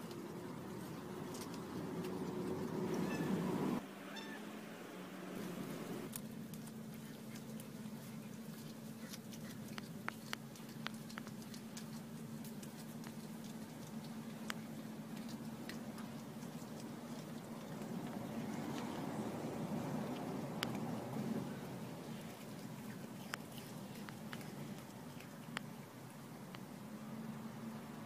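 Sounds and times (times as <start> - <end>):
cat chewing and crunching: 0.0 - 3.8, 5.3 - 28.0
steady low hum: 4.5 - 28.0.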